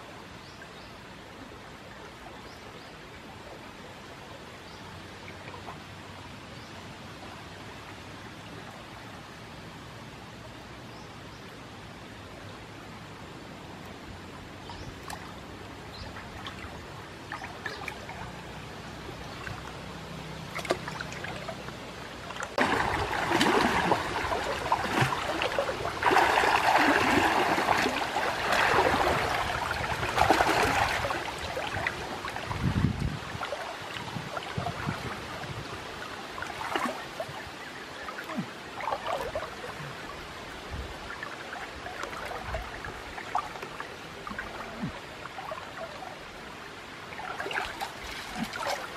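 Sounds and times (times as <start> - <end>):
river water splashing: 0.0 - 48.9.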